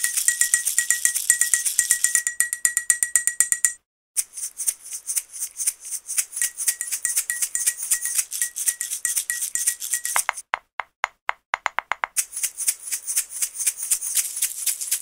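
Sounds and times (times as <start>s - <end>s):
shaker and clicking percussion music: 0.0s - 10.5s, 11.6s - 15.0s.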